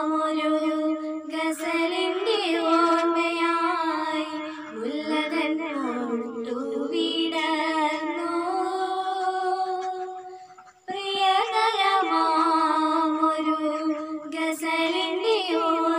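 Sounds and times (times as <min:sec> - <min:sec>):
girl singing: 0:00.0 - 0:15.9.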